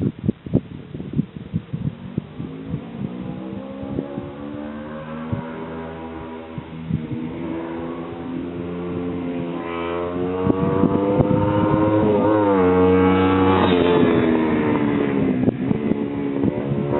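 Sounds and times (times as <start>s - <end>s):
motorcycle engine revving: 1.8s - 16.9s.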